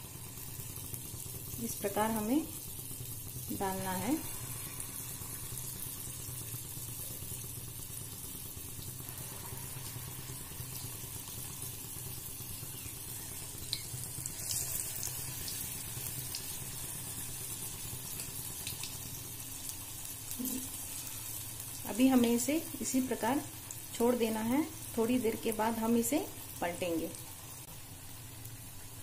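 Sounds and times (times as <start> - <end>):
oil sizzling and bubbling: 0.0 - 29.0
sharp oil crackles: 0.0 - 29.0.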